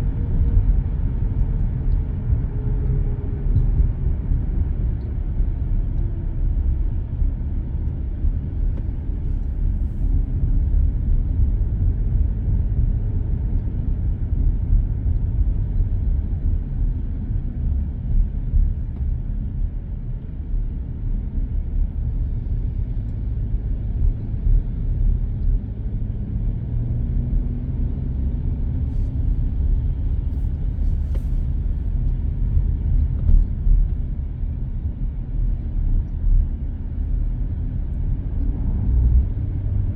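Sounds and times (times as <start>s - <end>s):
car tyre and road noise: 0.0s - 39.9s.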